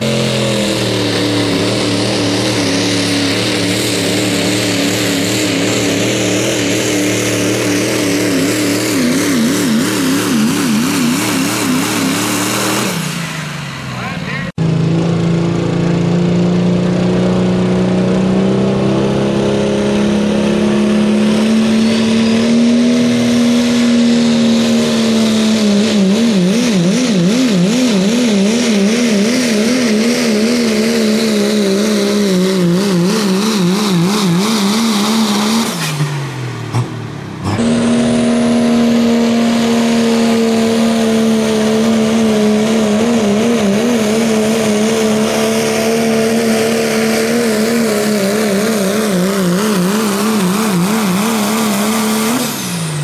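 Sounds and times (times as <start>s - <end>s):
diesel truck engines at full throttle: 0.0s - 53.0s.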